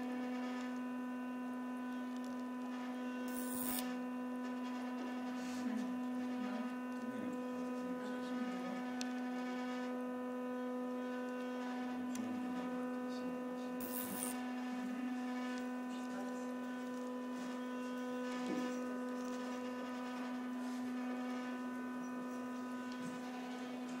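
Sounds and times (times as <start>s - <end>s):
electrical hum: 0.0s - 24.0s
faint scratching and crackling: 1.8s - 24.0s.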